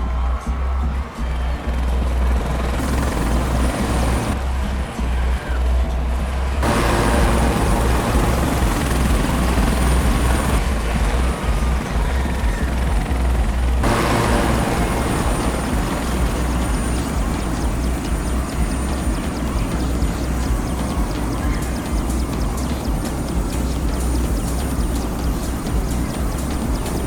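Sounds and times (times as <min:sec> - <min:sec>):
helicopter rotor and engine: 0:01.4 - 0:27.0.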